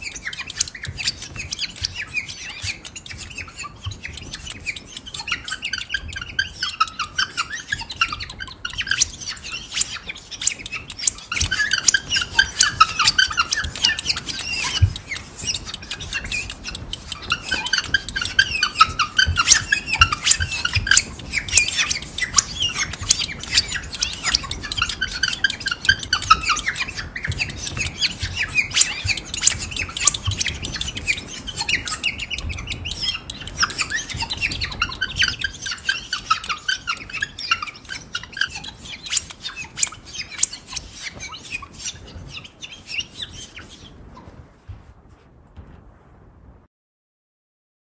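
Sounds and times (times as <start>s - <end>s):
rapid clicking and rattling: 0.0s - 43.8s
imitation birdsong chirps: 0.0s - 44.0s.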